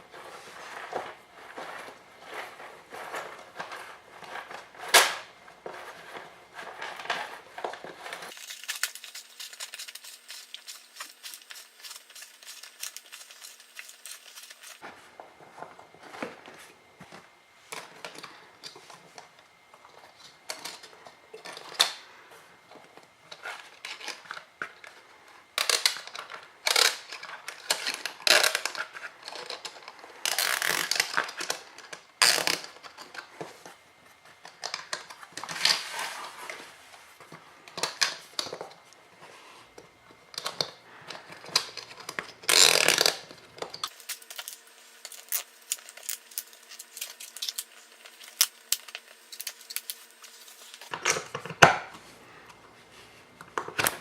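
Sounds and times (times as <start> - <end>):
clicks scrapes and rattles of parts: 0.1 - 14.8, 16.0 - 22.1, 22.7 - 51.8.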